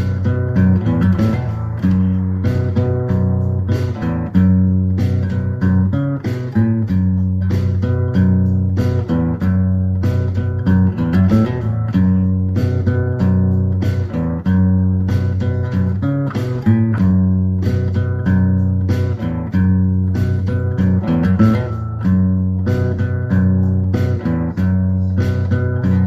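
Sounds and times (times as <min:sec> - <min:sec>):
rhythmic guitar playing: 0:00.0 - 0:26.0.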